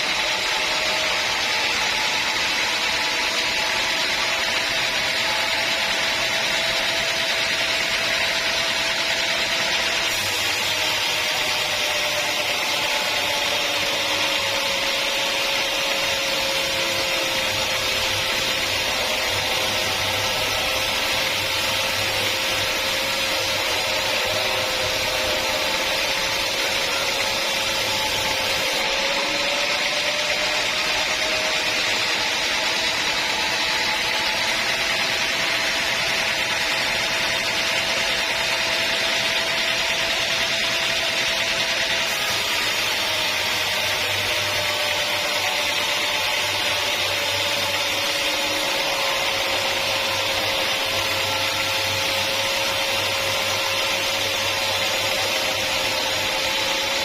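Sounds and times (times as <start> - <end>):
saw cutting log: 0.0 - 57.0.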